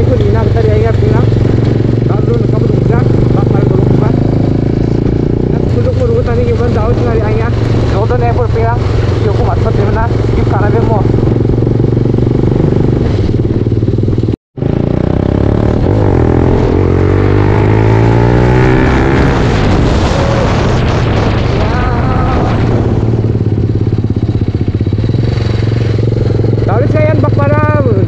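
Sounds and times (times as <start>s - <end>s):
wind noise on microphone: 0.0s - 26.7s
motorcycle engine running: 0.0s - 28.0s.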